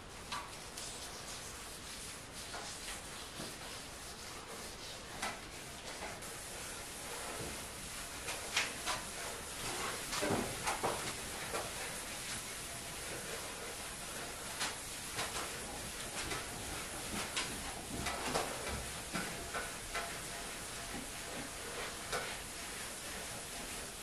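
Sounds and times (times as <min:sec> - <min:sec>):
cloth wiping wood: 0:00.5 - 0:24.0.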